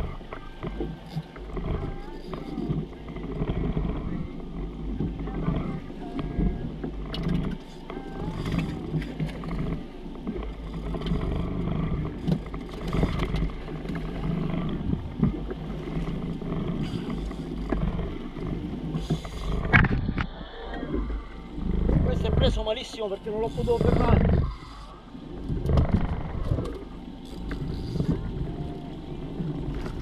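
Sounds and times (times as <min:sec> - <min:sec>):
outboard motor idling: 0:00.0 - 0:30.0.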